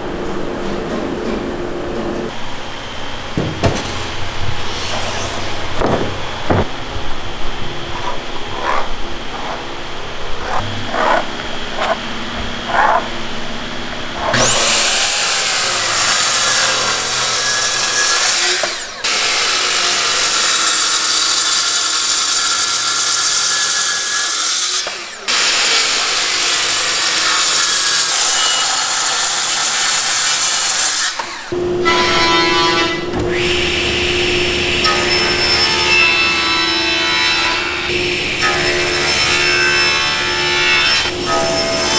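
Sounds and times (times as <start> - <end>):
circular saw cutting wood: 3.8 - 6.4, 7.7 - 41.9.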